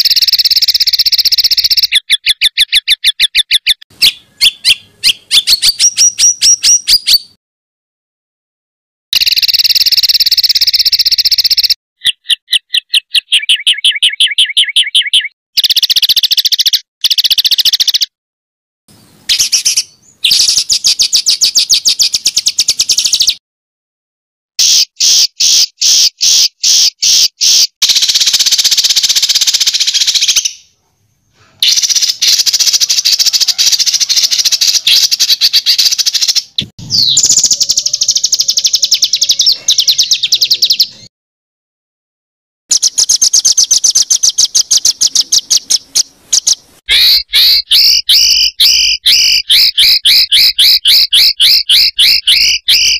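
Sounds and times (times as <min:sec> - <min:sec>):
songbird singing rapid high notes: 0:00.0 - 0:07.4, 0:09.2 - 0:18.1, 0:18.9 - 0:23.4, 0:24.6 - 0:30.7, 0:31.6 - 0:41.1, 0:42.7 - 0:52.9.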